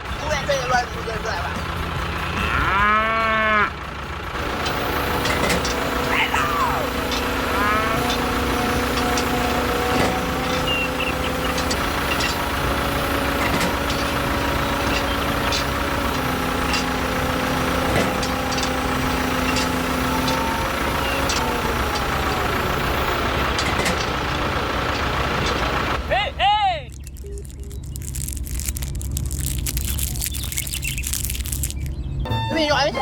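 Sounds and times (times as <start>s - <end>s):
small tractor engine running: 0.0s - 33.0s.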